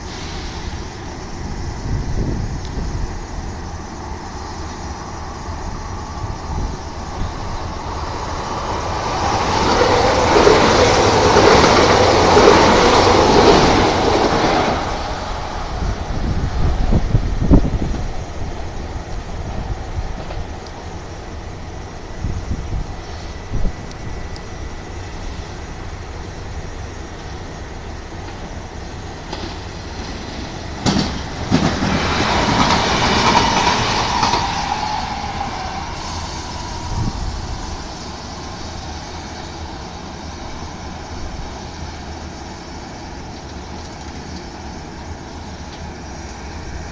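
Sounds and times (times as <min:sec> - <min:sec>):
electric train passing at speed: 0:00.0 - 0:46.9.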